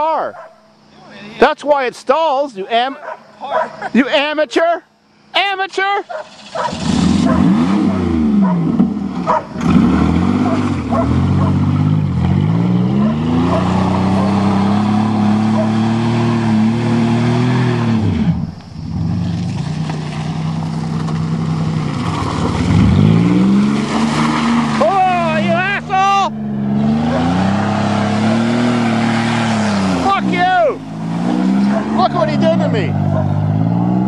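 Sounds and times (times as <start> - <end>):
car engine revving: 6.2 - 34.0.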